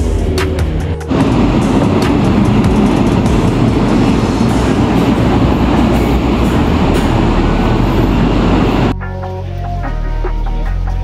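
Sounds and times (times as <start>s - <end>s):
train rumble: 0.0s - 9.0s.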